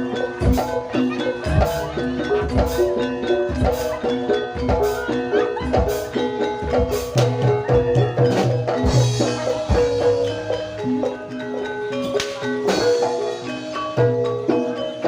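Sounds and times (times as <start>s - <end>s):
drum strokes: 0.0s - 15.0s
metallophones playing melody: 0.0s - 15.0s.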